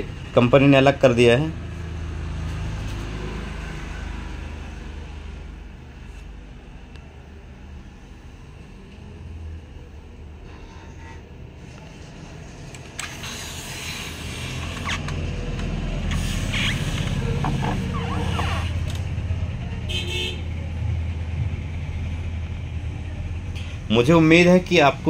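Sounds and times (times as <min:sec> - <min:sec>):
low rumble of road traffic: 0:00.0 - 0:25.0.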